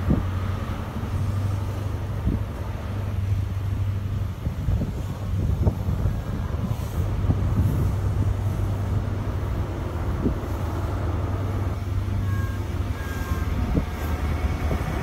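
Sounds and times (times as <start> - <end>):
diesel train engine droning: 0.0 - 15.0.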